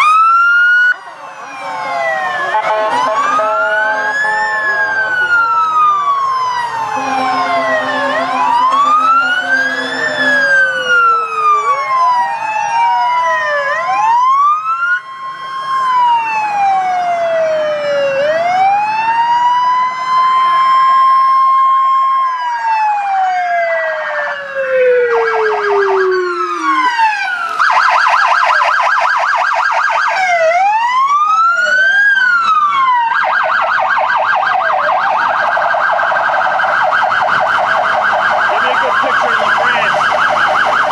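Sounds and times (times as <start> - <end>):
fast siren yelp: 0.0 - 40.9
fire truck sirens wailing: 0.0 - 40.9.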